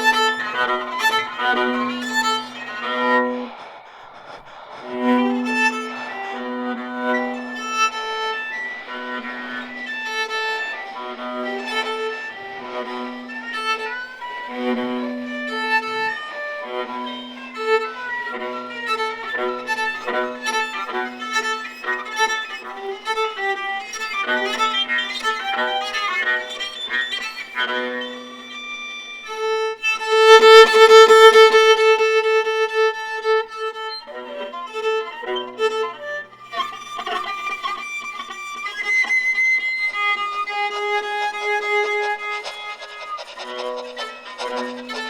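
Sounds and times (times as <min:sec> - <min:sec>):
viola: 0:00.0 - 0:45.0.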